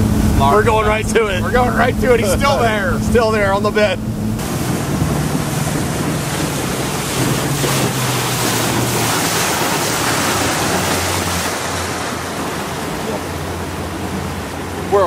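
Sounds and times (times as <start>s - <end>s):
low boat engine hum: 0.0s - 15.0s
water rushing past hull: 0.0s - 15.0s
wind buffeting microphone: 0.0s - 15.0s.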